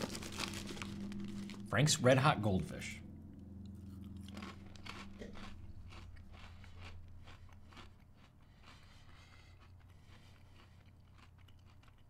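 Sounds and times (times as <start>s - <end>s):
person crunching crackers: 0.0s - 1.7s, 3.8s - 12.0s.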